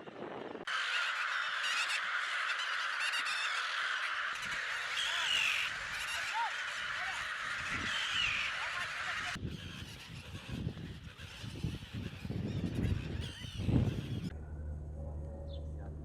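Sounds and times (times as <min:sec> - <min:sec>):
gulls calling: 0:00.6 - 0:14.6.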